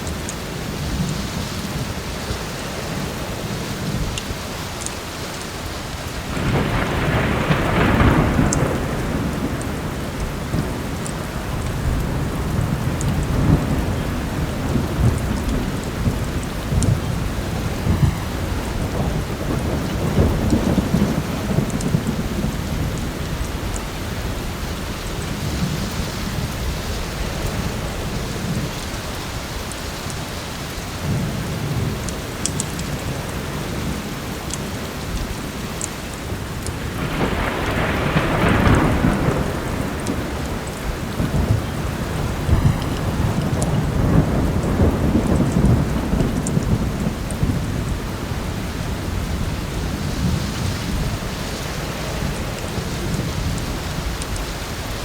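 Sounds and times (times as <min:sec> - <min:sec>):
heavy rain: 0:00.0 - 0:55.0
thunder rumbling: 0:00.0 - 0:55.0.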